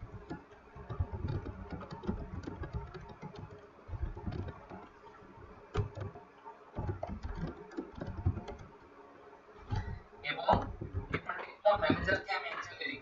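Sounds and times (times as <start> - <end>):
keyboard typing: 0.0 - 8.9, 9.6 - 12.2
low background rumble: 0.0 - 13.0.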